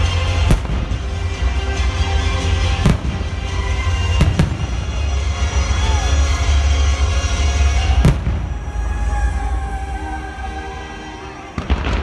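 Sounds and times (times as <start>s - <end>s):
music with heavy bass: 0.0s - 11.2s.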